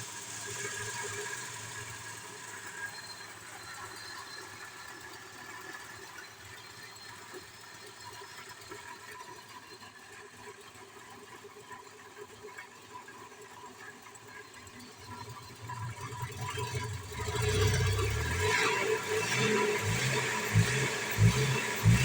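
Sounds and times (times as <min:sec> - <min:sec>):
engine running with misfire: 0:00.0 - 0:22.0.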